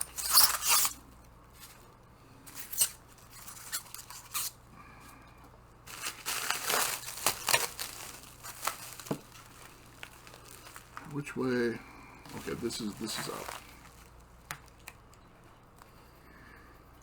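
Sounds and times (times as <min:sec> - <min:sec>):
rummaging through foam packing peanuts: 0:00.0 - 0:04.6, 0:05.8 - 0:14.9.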